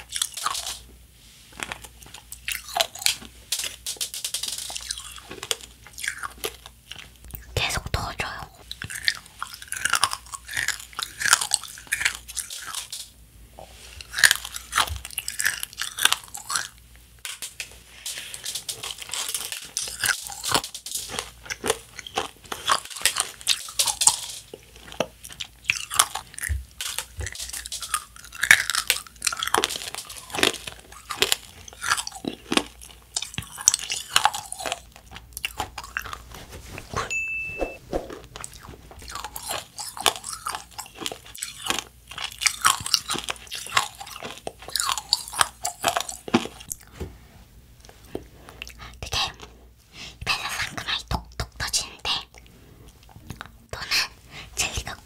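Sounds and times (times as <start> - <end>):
crunching and chewing candy: 0.0 - 0.9, 1.5 - 13.1, 13.9 - 36.4, 38.0 - 46.9, 47.8 - 55.0.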